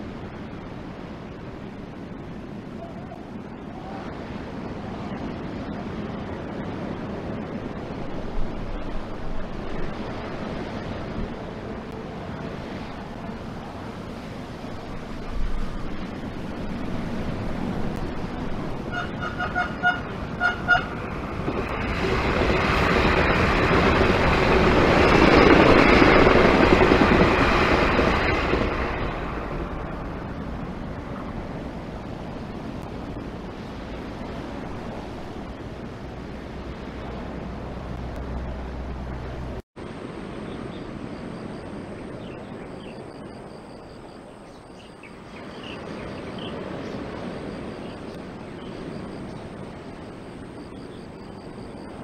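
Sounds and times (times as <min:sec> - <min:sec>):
passenger train rolling past: 0:00.0 - 0:52.0.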